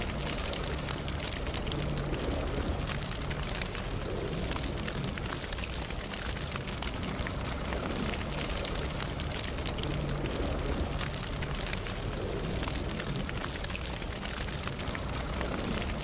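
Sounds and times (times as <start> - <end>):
low rush of flames: 0.0 - 16.0
wood crackling and popping: 0.0 - 16.0.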